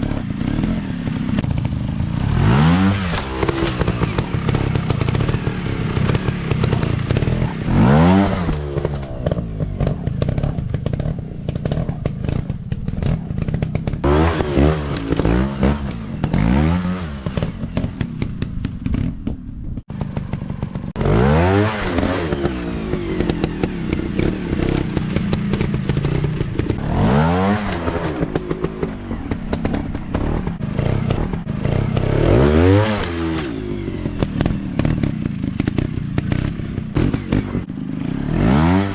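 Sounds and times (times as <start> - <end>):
dirt bike engine revving: 0.0 - 19.1, 19.8 - 38.9.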